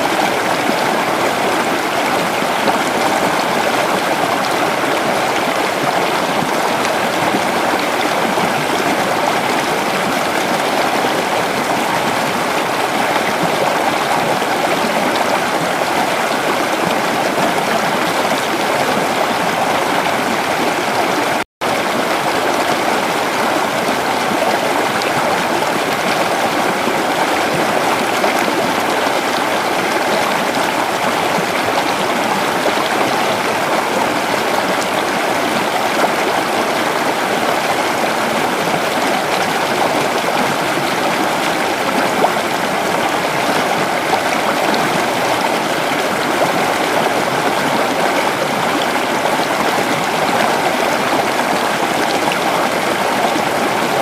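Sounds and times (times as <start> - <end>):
creek water babbling: 0.0 - 54.0.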